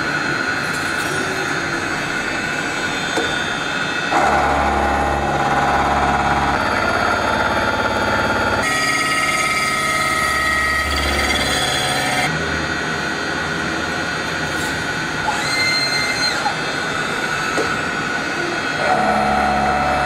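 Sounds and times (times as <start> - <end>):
high machine whine: 0.0 - 20.0
machine noise: 0.0 - 20.0.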